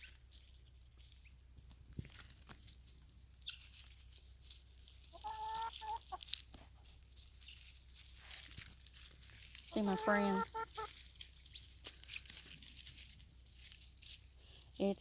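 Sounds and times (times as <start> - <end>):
light ticks and rustles: 0.0 - 15.0
hens clucking: 2.9 - 15.0.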